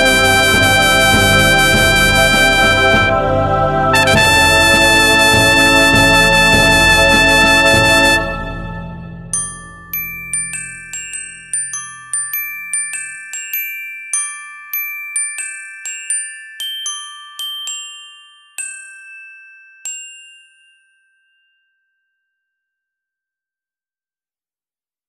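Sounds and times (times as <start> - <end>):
bell-like melody: 0.0 - 23.0.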